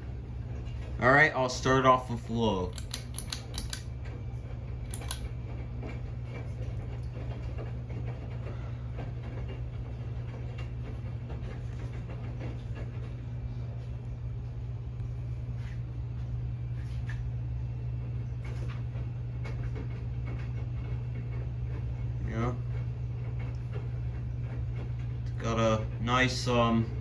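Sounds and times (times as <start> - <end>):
ceiling fan motor hum: 0.0 - 27.0.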